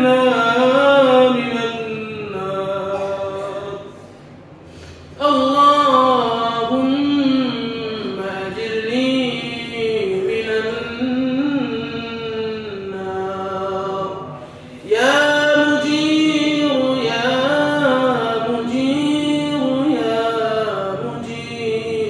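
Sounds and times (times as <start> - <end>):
man chanting melodically: 0.0 - 4.2, 5.1 - 22.0.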